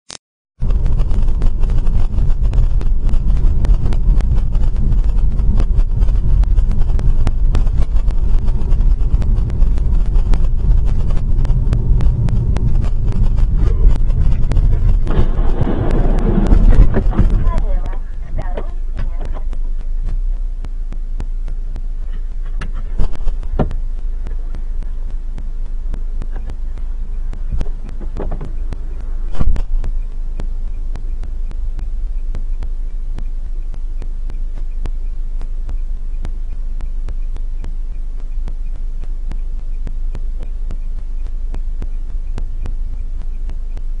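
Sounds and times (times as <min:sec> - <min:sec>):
car engine idling: 0:00.6 - 0:44.0.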